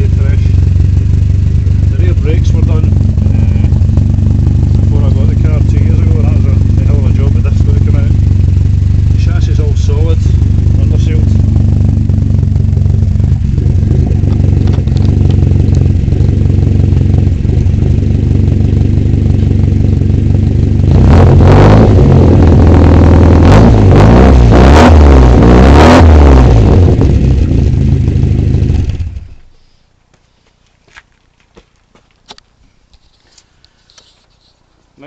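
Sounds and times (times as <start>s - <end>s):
car engine idling and revving: 0.0s - 29.5s.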